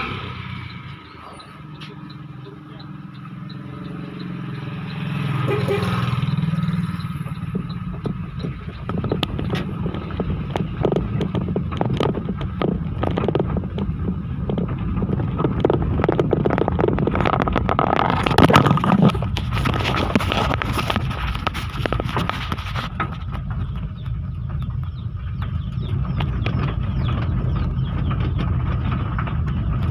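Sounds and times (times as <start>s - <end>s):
vehicle engine rumbling: 0.0s - 29.9s
rattles and knocks: 0.8s - 29.9s.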